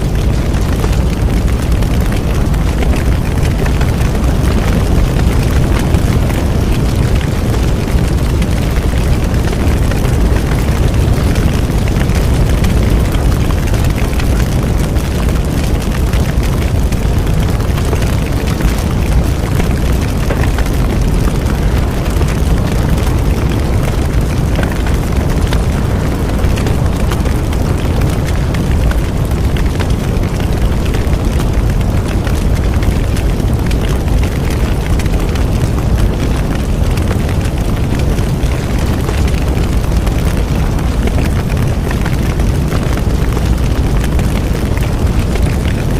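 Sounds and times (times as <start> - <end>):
burning wood crackling and popping: 0.0 - 45.9
low rumble of flames: 0.0 - 45.9.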